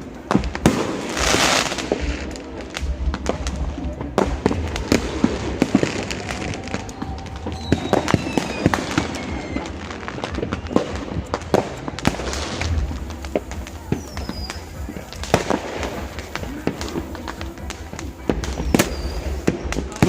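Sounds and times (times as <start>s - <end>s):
fireworks popping and banging: 0.0s - 20.0s
faint falling firework whistles: 0.3s - 20.0s.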